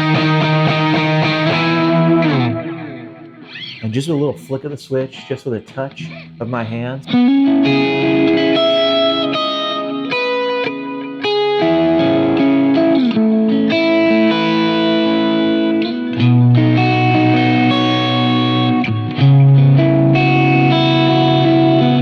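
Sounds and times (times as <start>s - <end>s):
electric guitar chords with delay: 0.0s - 4.5s, 5.9s - 22.0s.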